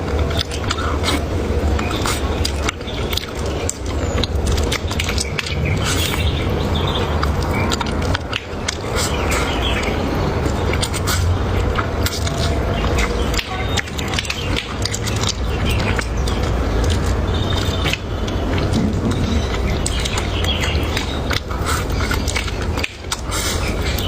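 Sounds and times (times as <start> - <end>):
chewing and crunching: 0.0 - 24.0
steady low rumble: 0.0 - 24.0.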